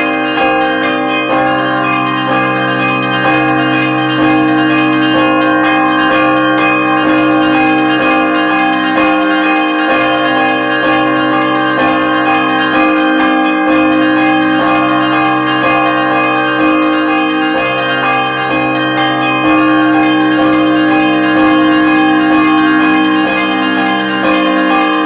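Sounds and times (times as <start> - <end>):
church bells ringing: 0.0 - 25.0
low hum of large bell: 0.0 - 25.0.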